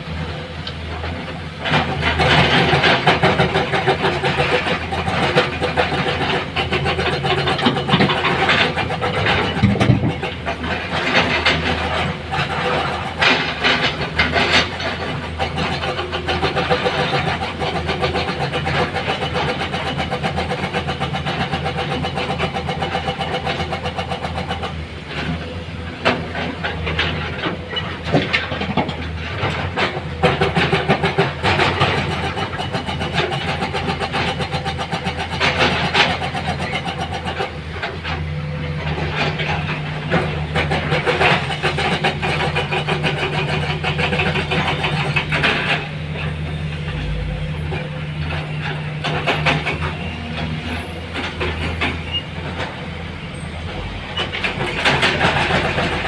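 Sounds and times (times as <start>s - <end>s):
heavy diesel engine running: 0.0s - 56.0s
knocks and clatter: 0.7s - 52.9s, 53.7s - 56.0s.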